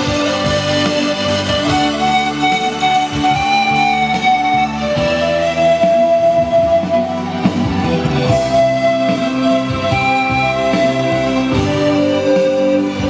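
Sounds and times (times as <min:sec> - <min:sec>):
drums: 0:00.0 - 0:13.0
guitar: 0:00.0 - 0:13.0
pan flute melody: 0:00.0 - 0:13.0.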